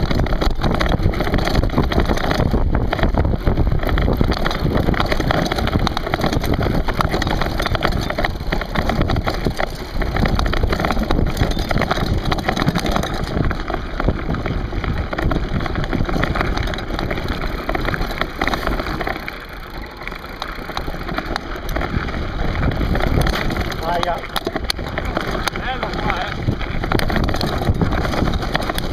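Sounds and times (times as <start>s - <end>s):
tyres crunching over loose stones: 0.0s - 28.9s.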